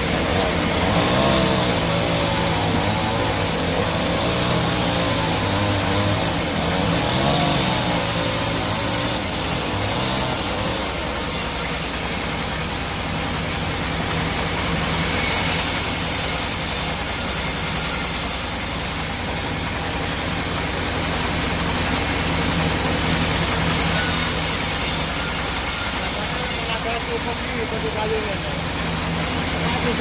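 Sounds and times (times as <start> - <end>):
sawmill machinery running: 0.0 - 30.0.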